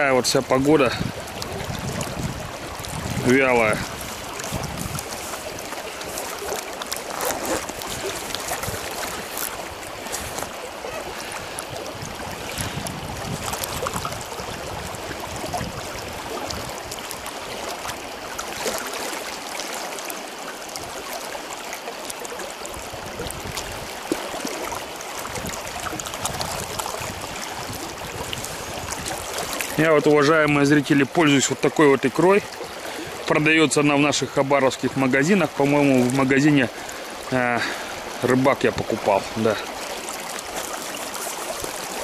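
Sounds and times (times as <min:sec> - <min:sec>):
river current rushing: 0:00.0 - 0:42.0
water splashes: 0:00.0 - 0:42.0.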